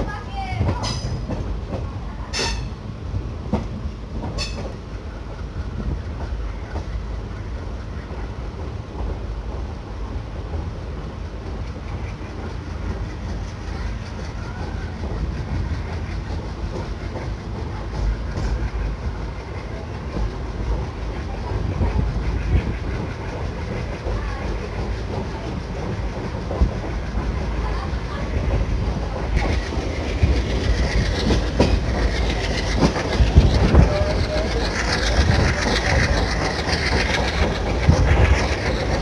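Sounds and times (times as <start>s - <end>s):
train wheels rumbling: 0.0s - 39.0s
wheels clacking over rail joints: 0.0s - 39.0s.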